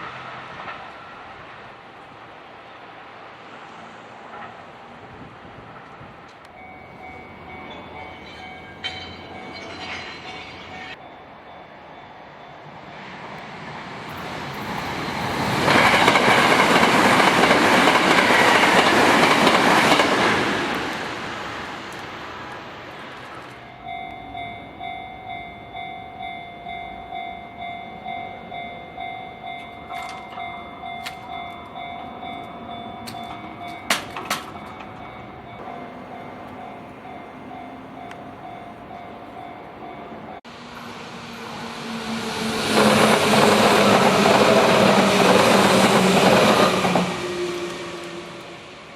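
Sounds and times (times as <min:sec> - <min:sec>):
train wheels on rails: 0:00.0 - 0:48.9
level-crossing warning bell: 0:06.4 - 0:21.2, 0:22.4 - 0:48.9.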